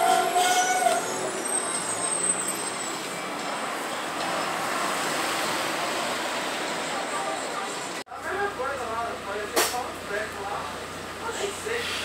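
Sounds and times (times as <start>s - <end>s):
street traffic noise: 0.0s - 12.0s
bus engine running: 1.0s - 12.0s.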